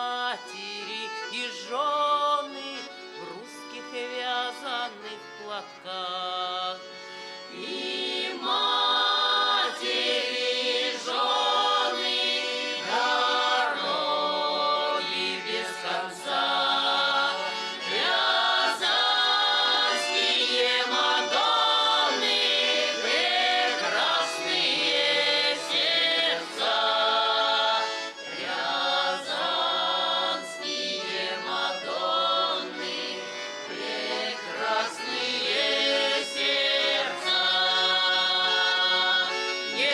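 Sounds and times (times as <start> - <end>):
choir singing with accompaniment: 6.9 - 39.9.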